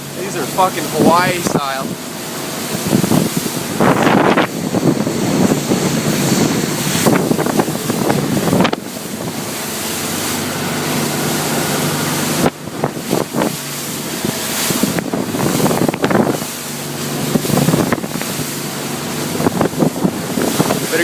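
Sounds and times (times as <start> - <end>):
motorboat engine: 0.0 - 21.0
water splashing past hull: 0.0 - 21.0
wind buffeting microphone: 0.0 - 21.0.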